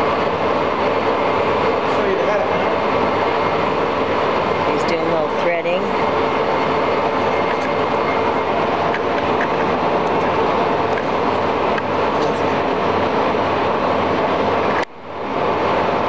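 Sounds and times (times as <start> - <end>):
lathe running with mechanical whir: 0.0 - 16.0.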